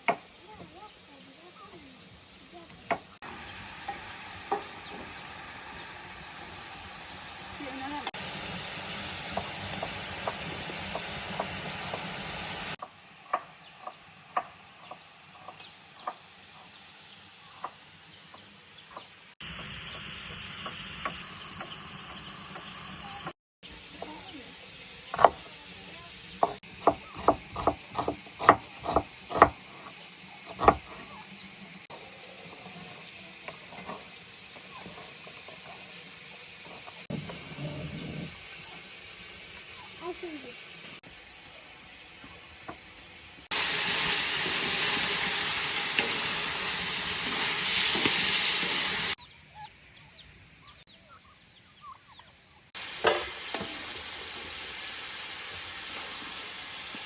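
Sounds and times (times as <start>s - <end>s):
food sizzling: 0.0s - 51.8s, 52.4s - 57.0s.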